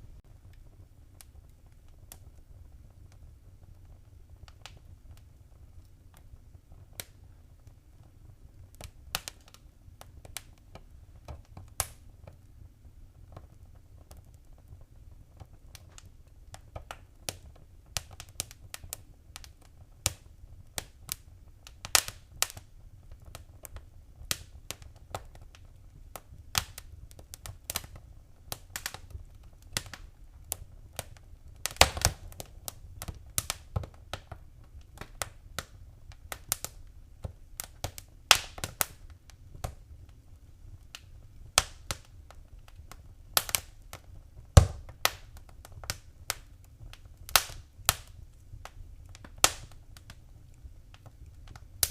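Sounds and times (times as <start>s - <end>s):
low rumble of flames: 0.0s - 51.9s
wood fire crackling: 0.0s - 51.9s.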